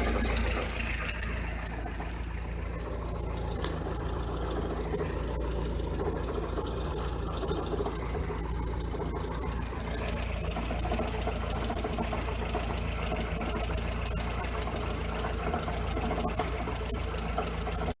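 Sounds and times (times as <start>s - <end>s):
car engine idling: 0.0s - 18.0s
drivetrain rattle: 0.0s - 18.0s.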